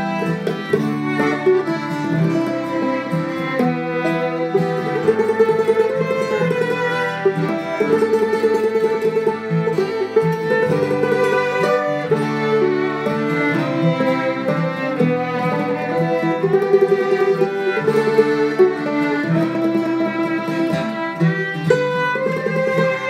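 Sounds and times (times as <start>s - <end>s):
bowed fiddle: 0.0s - 23.0s
plucked strings: 0.0s - 23.0s.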